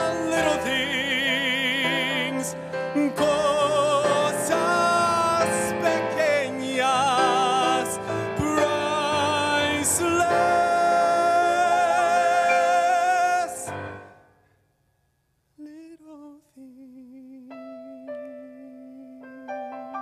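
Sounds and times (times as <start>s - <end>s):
man singing with vibrato: 0.0s - 14.3s, 15.6s - 19.6s
grand piano: 0.0s - 14.4s, 17.1s - 20.0s.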